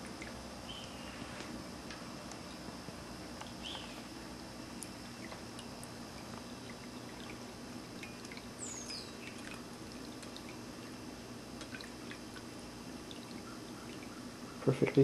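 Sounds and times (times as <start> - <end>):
water trickling with drips: 0.0 - 15.0.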